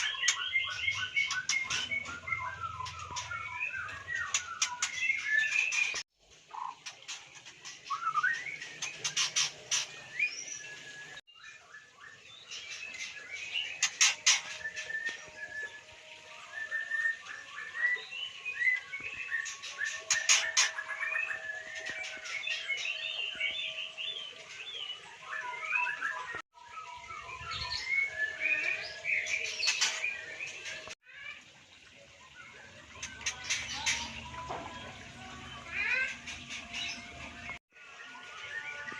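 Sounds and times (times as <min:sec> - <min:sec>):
birds chirping and singing: 0:00.0 - 0:31.0, 0:32.0 - 0:38.9.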